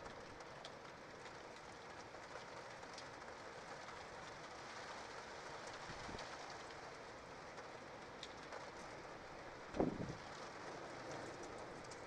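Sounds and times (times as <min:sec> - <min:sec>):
raindrop ticks: 0:00.0 - 0:12.0
steady rain hiss: 0:00.0 - 0:12.0.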